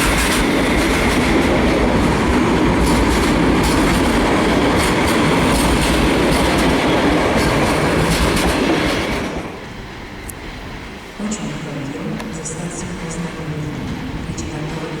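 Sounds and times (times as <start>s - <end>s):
train rumble: 0.0s - 15.0s
train wheels clicking on rails: 0.0s - 15.0s.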